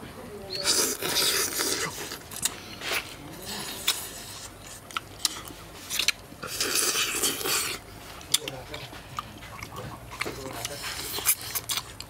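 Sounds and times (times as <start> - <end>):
eating smacks and crunches: 0.6 - 12.0.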